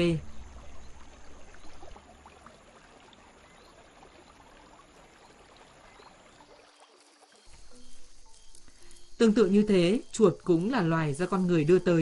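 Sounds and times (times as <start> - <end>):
water trickling among rocks: 0.2 - 11.7.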